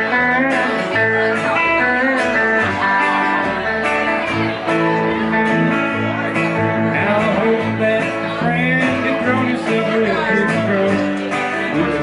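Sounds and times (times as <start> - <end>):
acoustic guitar: 0.0 - 12.0
electric guitar: 0.0 - 12.0
upright bass plucking: 0.0 - 12.0.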